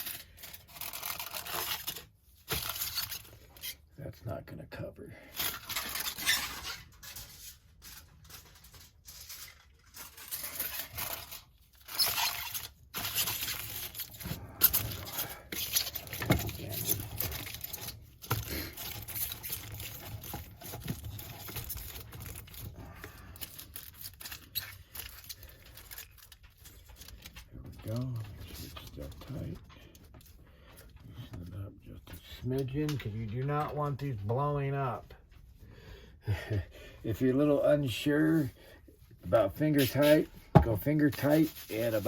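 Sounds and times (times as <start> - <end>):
handling noises of jars: 5.3 - 36.4, 37.5 - 42.0.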